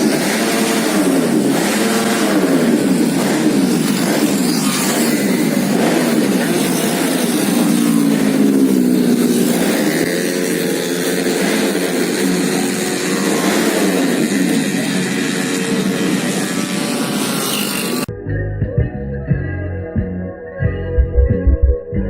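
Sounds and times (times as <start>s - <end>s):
scooter engine revving: 0.0s - 18.1s.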